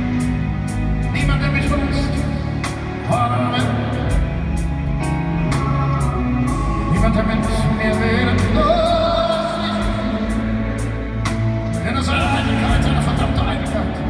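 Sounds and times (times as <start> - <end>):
piano: 0.0 - 14.0
upright double bass: 0.0 - 14.0.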